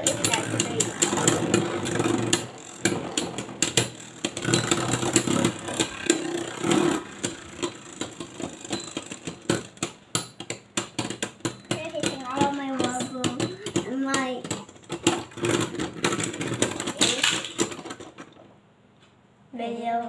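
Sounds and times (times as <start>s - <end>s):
spinning tops clacking together: 0.0s - 18.3s
spinning tops whirring: 0.0s - 18.3s.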